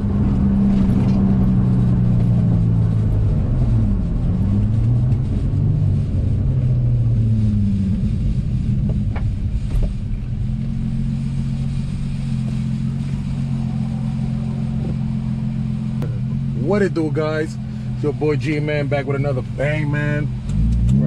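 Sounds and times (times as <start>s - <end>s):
car engine accelerating through gears: 0.0s - 21.0s.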